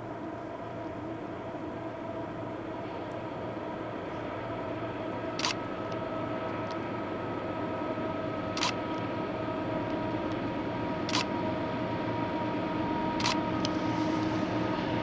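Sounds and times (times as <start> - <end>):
faint locomotive whine: 0.0 - 15.0
freight train rumble: 0.0 - 15.0.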